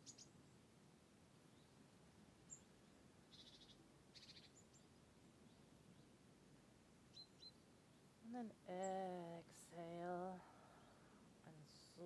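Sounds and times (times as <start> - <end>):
faint songbird chirps and trills: 0.0 - 12.0.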